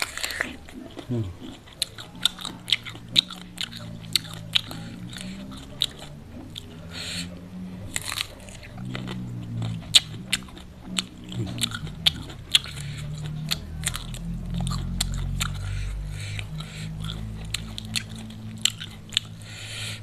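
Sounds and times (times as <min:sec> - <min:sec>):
crunching and chewing vegetables: 0:00.0 - 0:20.0.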